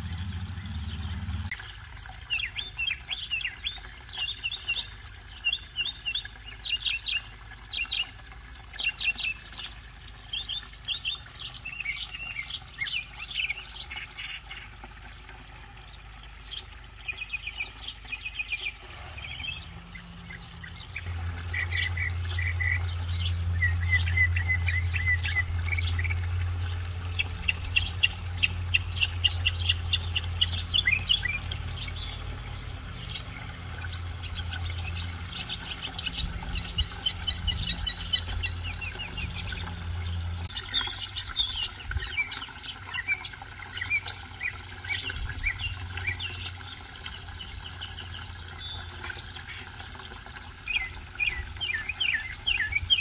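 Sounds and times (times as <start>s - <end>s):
songbird chirping and trilling: 0.0s - 8.2s, 8.8s - 14.7s, 16.4s - 49.8s, 50.6s - 53.0s
low steady hum: 0.0s - 53.0s.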